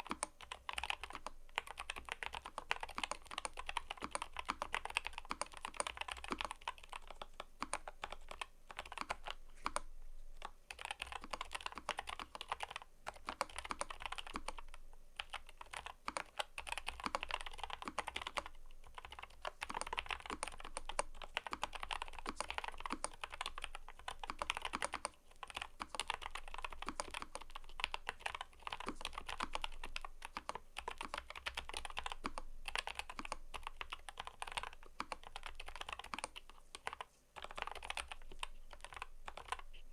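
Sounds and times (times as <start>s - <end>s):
mechanical keyboard typing: 0.0s - 39.8s.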